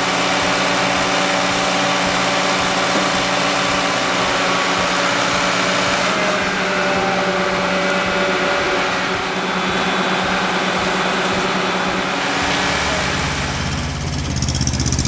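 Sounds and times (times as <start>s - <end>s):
deep pulsing engine: 0.0s - 15.0s
heavy machinery engine drone: 0.0s - 15.0s.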